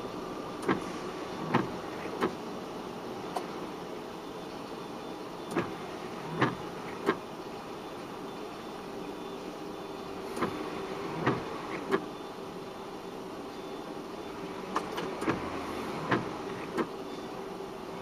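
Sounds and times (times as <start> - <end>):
car cabin hum: 0.0 - 18.0.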